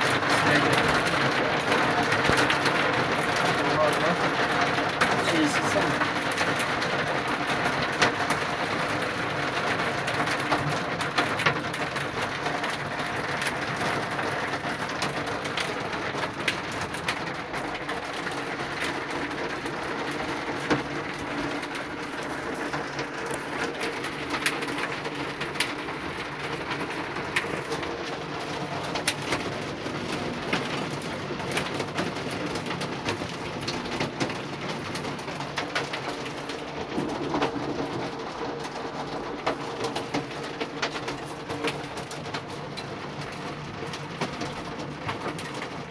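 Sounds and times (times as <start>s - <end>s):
rain drops ticking on hard surface: 0.0s - 45.9s.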